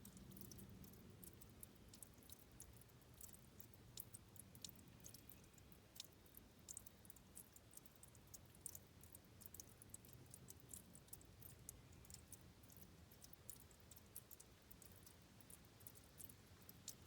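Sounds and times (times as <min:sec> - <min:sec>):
faint water trickling and dripping: 0:00.0 - 0:17.0.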